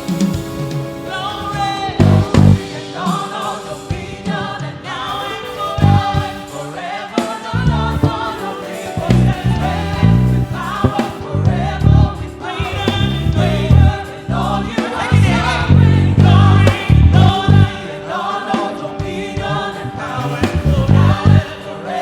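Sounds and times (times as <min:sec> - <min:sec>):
band with drums and bass: 0:00.0 - 0:06.6, 0:07.2 - 0:17.9, 0:18.6 - 0:21.6
gospel choir singing: 0:00.0 - 0:22.0.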